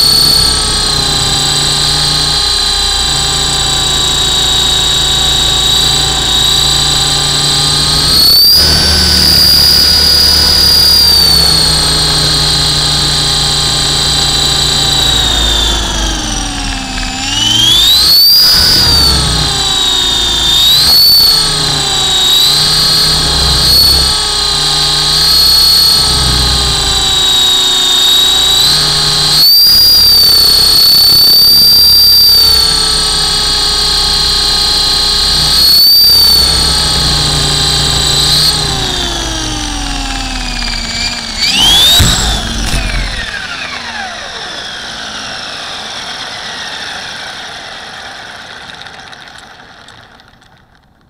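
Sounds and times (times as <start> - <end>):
model helicopter rotor whine: 0.0 - 51.0.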